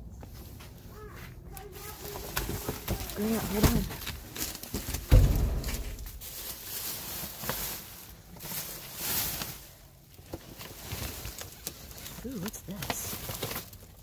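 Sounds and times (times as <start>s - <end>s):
cardboard and packaging rustling: 0.0s - 14.0s.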